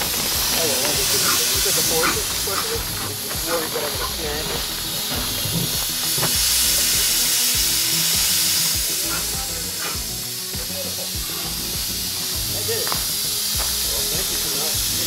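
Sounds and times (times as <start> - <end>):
steam car hissing: 0.0 - 15.0.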